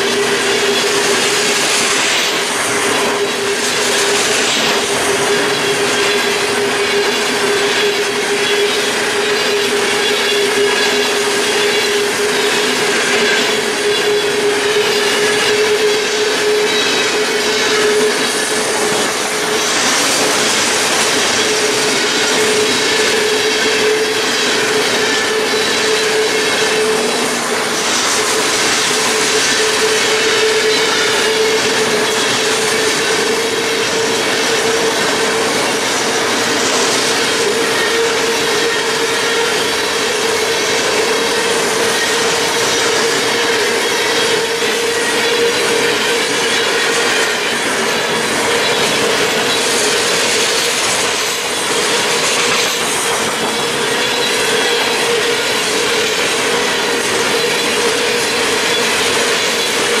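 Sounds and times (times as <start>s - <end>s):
train wheels rumbling on rails: 0.0s - 60.0s
wheels squealing: 0.0s - 60.0s.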